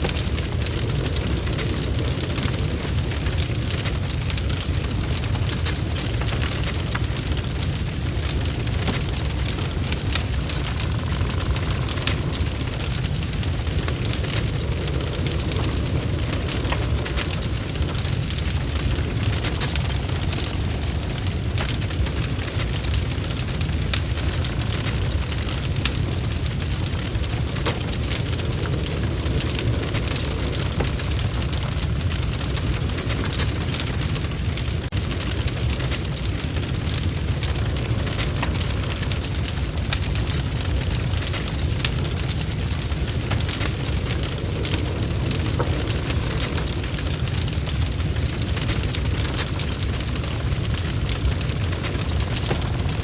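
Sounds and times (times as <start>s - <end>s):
low rumble of flames: 0.0s - 53.0s
wood fire snapping and popping: 0.0s - 53.0s.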